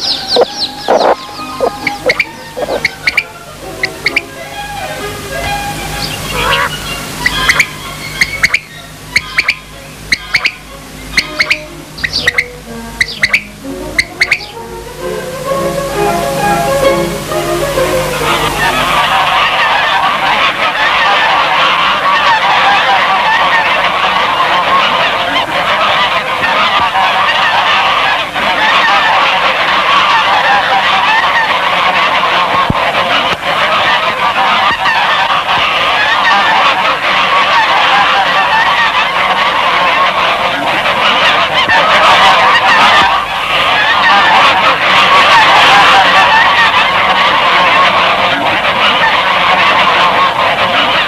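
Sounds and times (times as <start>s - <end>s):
geese honking: 0.0s - 51.0s.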